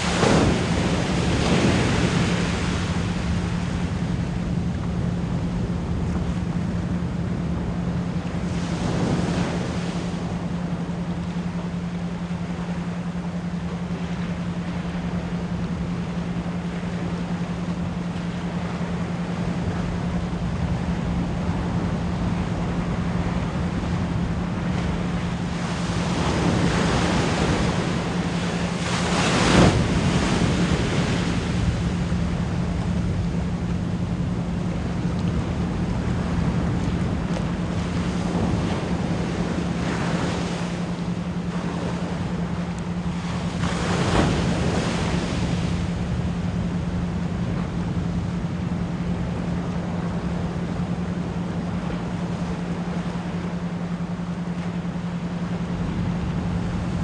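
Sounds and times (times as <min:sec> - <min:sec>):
constant low pure tone: 0:00.0 - 0:57.0
ocean waves washing in: 0:00.0 - 0:57.0.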